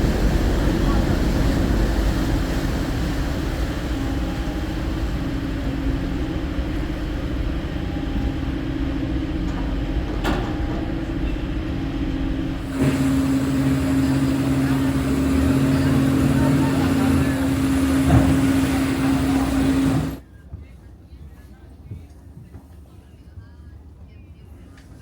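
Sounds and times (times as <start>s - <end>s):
vehicle engine running: 0.0s - 20.2s.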